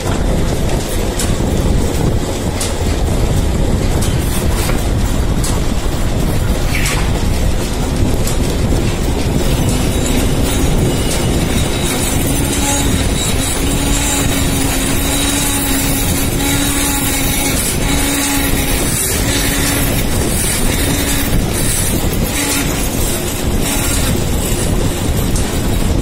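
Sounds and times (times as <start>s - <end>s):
metal lathe running: 0.0s - 26.0s.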